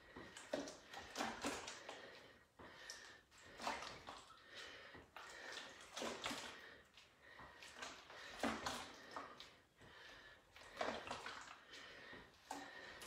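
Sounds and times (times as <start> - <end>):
water sloshing in plastic container: 0.0 - 13.0.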